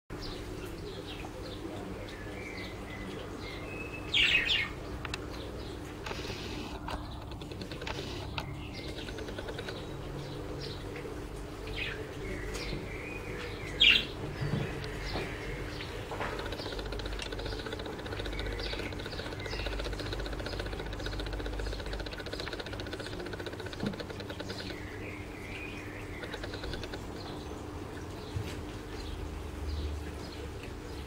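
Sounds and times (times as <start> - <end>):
birds chirping: 0.1 - 31.0.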